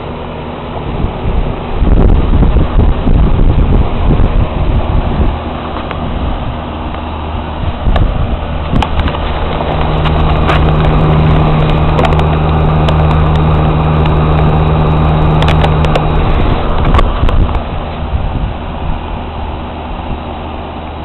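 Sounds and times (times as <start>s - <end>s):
machine humming: 0.0s - 21.0s
stronger machine hum: 0.0s - 21.0s.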